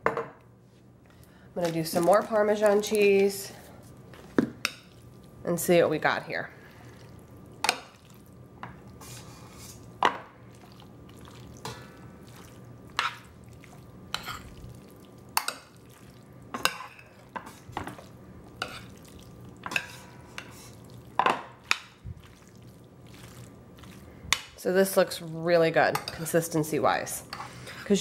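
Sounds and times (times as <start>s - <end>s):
soft stirring of pasta: 0.6s - 28.0s.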